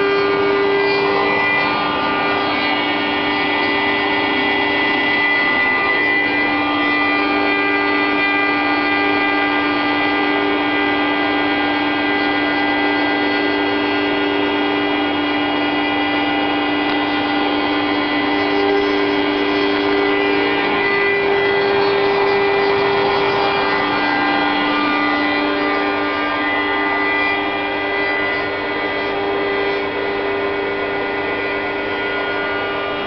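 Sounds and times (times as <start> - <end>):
cnc machine whining: 0.0 - 33.0.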